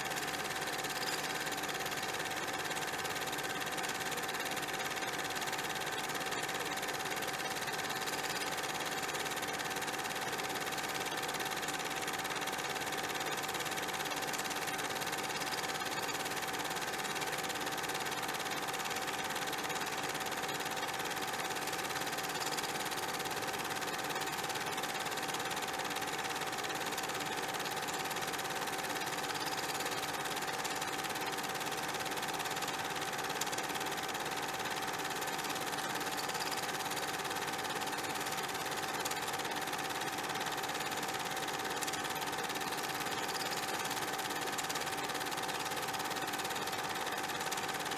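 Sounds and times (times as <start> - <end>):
machine whirring with high hum: 0.0 - 47.9.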